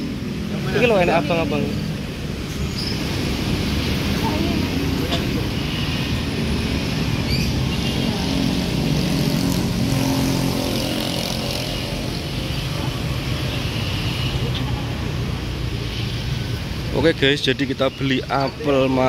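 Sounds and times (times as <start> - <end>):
motor traffic rumble: 0.0 - 19.0.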